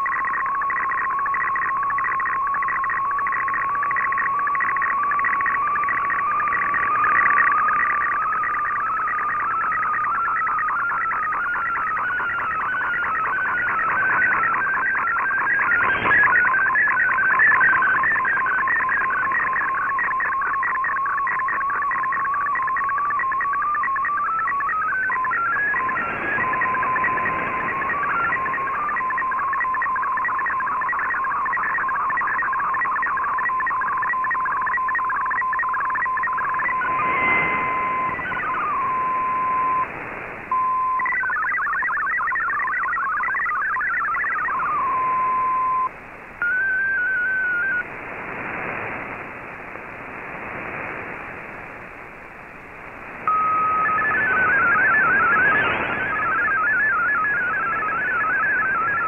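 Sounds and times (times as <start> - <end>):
warbling digital data tones: 0.0 - 39.9, 40.5 - 49.2, 53.1 - 59.0
faint radio band noise: 0.0 - 59.0.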